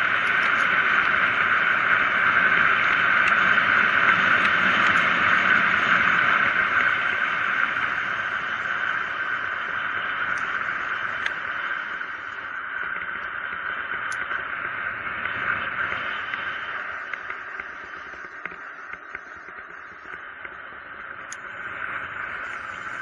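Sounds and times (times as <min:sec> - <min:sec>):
bike tyre noise on asphalt: 0:00.0 - 0:23.0.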